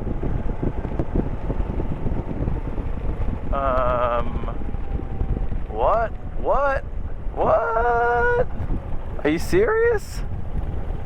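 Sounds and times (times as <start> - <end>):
motorcycle engine: 0.0 - 11.0
wind buffeting microphone: 0.0 - 11.0.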